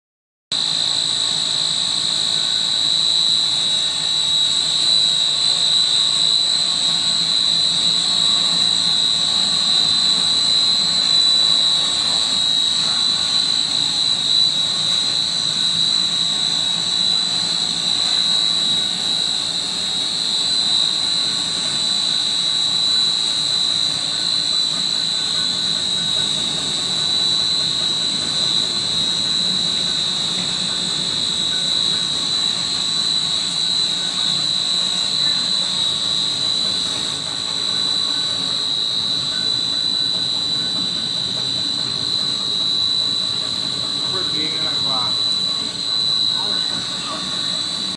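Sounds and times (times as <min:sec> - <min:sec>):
high-pitched machine whine: 0:00.5 - 0:47.9
machine hum: 0:00.6 - 0:47.9.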